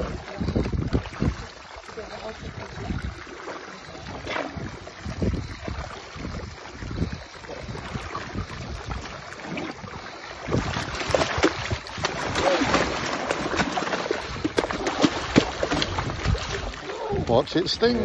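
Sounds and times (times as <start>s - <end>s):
water splashing against boat hull: 0.0s - 18.0s.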